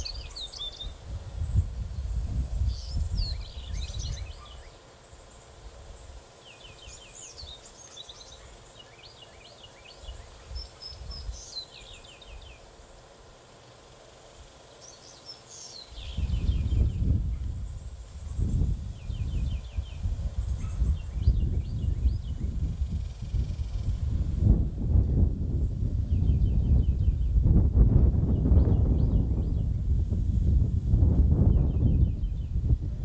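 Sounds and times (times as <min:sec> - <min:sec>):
small birds chirping and trilling: 0:00.0 - 0:24.3, 0:25.6 - 0:29.9, 0:31.4 - 0:32.8.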